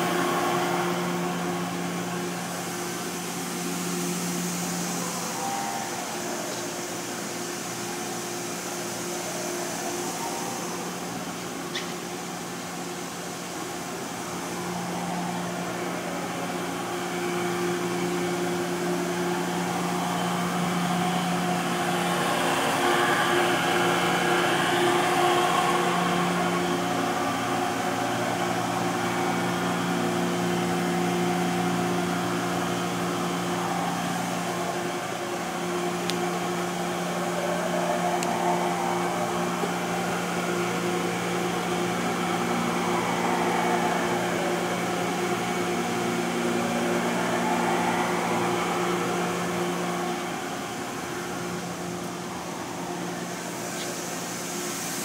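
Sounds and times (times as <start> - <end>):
machine hum with whine: 0.0 - 55.0.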